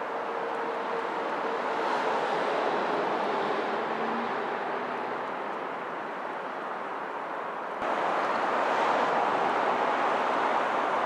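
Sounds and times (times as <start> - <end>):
outdoor background rush: 0.0 - 11.0.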